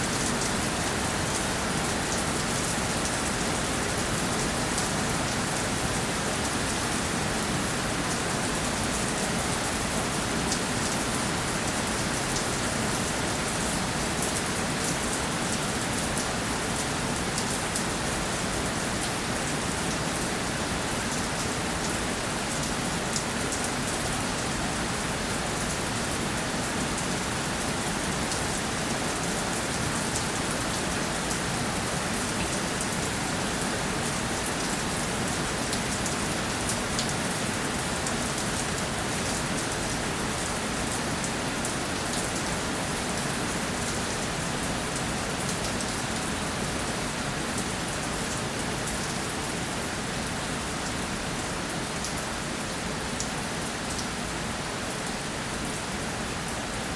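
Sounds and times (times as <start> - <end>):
steady rainfall hiss: 0.0 - 56.9.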